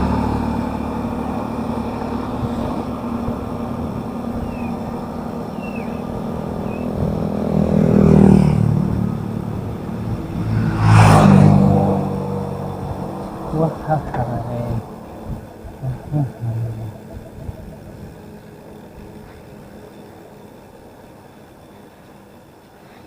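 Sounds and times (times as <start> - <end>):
steady engine hum: 0.0 - 23.0
vehicles passing close: 0.0 - 23.0.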